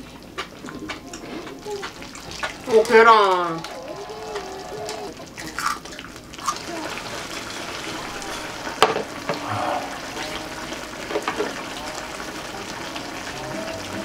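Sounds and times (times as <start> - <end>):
broth bubbling and hissing: 0.0 - 14.0.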